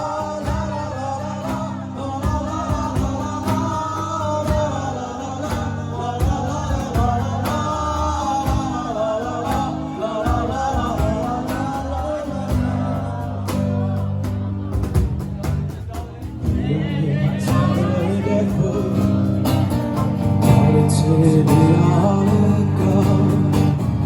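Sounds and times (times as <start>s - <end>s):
person singing: 0.0s - 15.2s, 15.9s - 24.0s
guitar: 0.0s - 24.0s
percussion beat: 0.0s - 24.0s
sustained bass notes: 0.0s - 24.0s.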